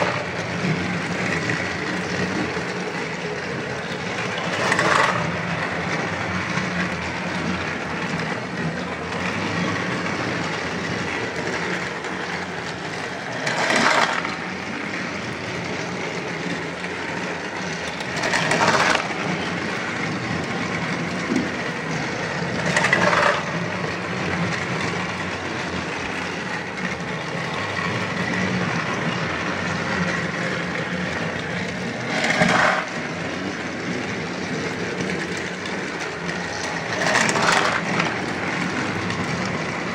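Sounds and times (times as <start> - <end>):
toy train motor hum: 0.0 - 39.9
toy train wheels rattling: 0.0 - 39.9.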